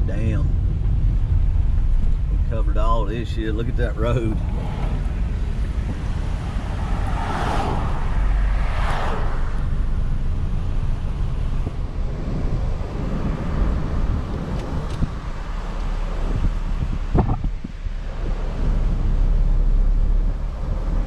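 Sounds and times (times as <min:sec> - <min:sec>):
vehicle driving rumble: 0:00.0 - 0:21.0
wind buffeting microphone: 0:00.0 - 0:21.0.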